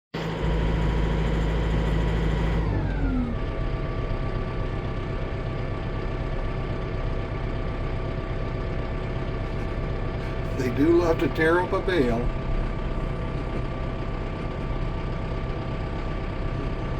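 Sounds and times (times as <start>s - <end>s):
vehicle engine idling: 0.2s - 16.9s.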